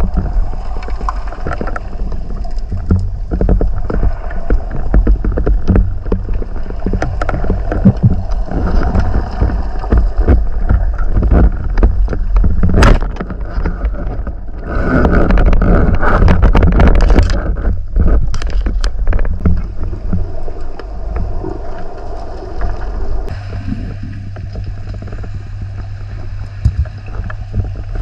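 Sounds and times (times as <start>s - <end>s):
underwater rumble: 0.0s - 28.0s
water rushing and bubbling: 0.0s - 28.0s.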